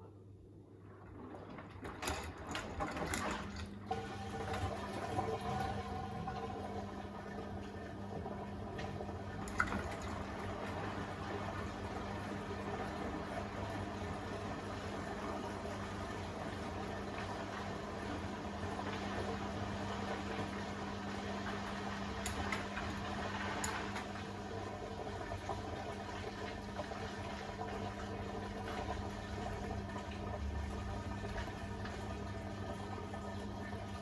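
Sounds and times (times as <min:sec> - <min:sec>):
washing machine hum: 0:00.0 - 0:34.0
water sloshing in washing machine: 0:00.0 - 0:34.0.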